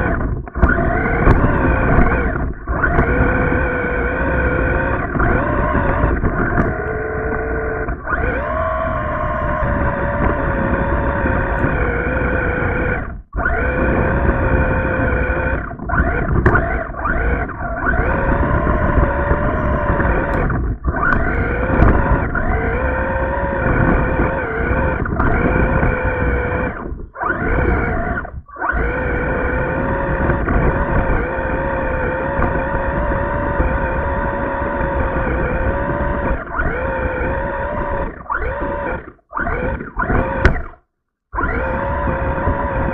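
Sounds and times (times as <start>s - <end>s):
electric motor whining: 0.0s - 42.9s.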